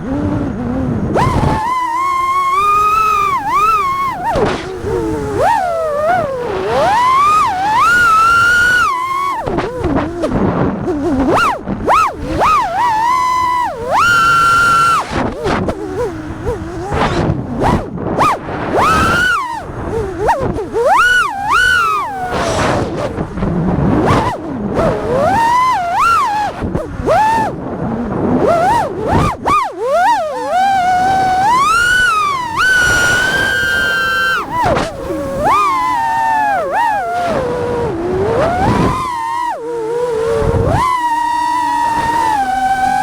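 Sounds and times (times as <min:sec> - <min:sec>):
drone motors whining: 0:00.0 - 0:43.0.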